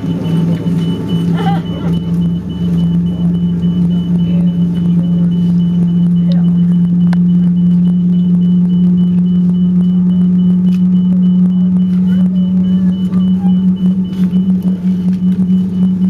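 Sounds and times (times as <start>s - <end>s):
airliner engines droning: 0.0s - 16.0s.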